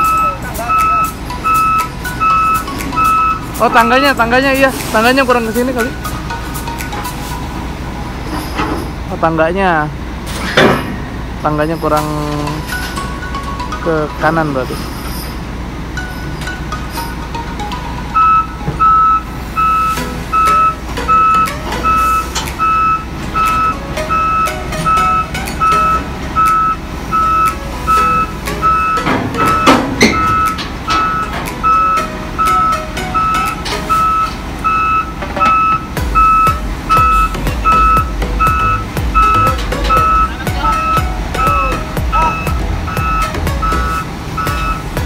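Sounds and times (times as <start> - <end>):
reversing alarm beeping: 0.0 - 7.6, 16.0 - 45.0
background music: 0.0 - 8.5, 12.2 - 14.7, 15.9 - 45.0
diesel engine rumble: 0.0 - 45.0.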